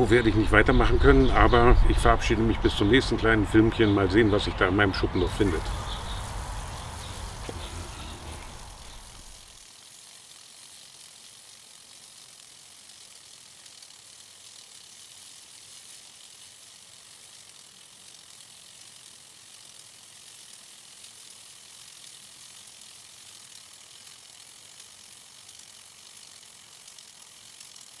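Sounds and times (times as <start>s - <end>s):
sprinkler drive rapid ticking: 0.0s - 28.0s
water spray hissing: 5.3s - 28.0s.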